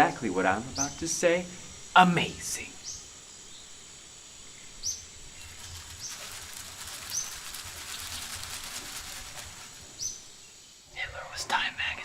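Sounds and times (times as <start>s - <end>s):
crackly rustling hiss: 0.0s - 12.0s
small bird chirping: 0.6s - 1.2s, 1.8s - 12.0s.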